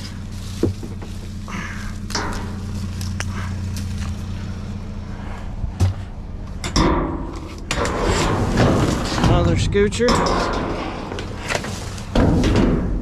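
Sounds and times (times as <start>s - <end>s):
junk clattering and scraping: 0.0s - 13.0s
steady low hum: 0.0s - 13.0s.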